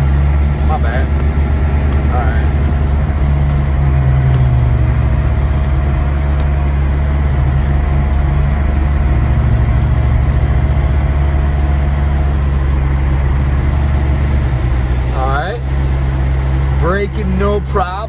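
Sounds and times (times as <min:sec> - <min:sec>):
engine and tyres rumbling: 0:00.0 - 0:18.0
faint steady hum: 0:00.0 - 0:18.0.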